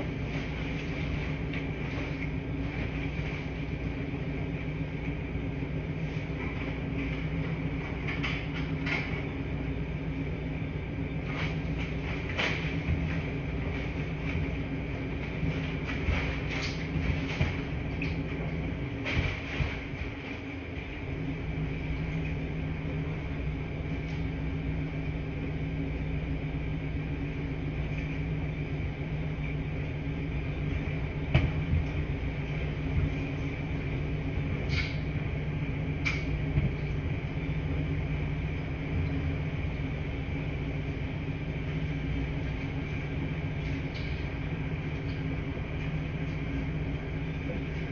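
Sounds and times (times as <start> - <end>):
washing machines humming: 0.0 - 47.9.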